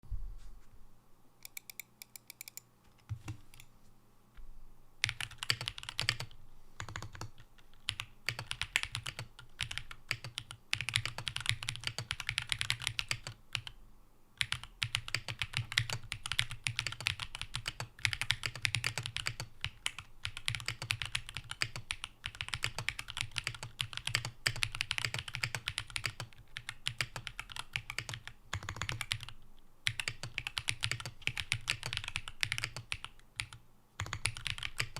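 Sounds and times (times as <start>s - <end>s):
mechanical keyboard typing: 1.4s - 3.7s, 5.0s - 13.7s, 14.4s - 34.9s.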